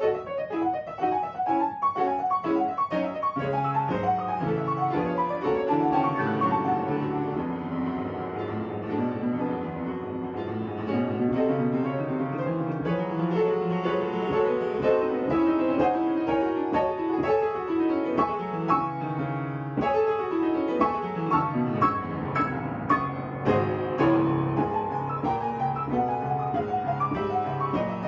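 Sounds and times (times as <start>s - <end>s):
upright piano playing: 0.0s - 28.0s.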